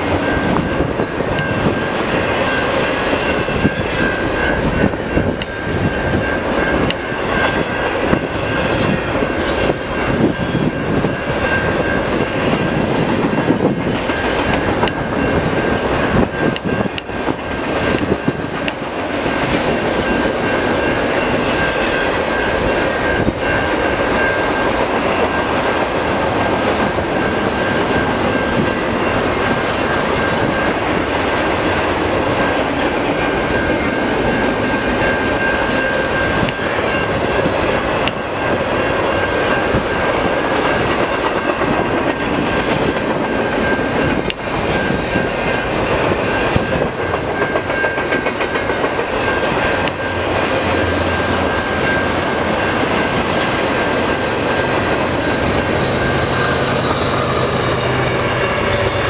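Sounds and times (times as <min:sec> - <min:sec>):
steady high tone: 0:00.0 - 0:59.0
train wheels rumbling on rails: 0:00.0 - 0:59.0.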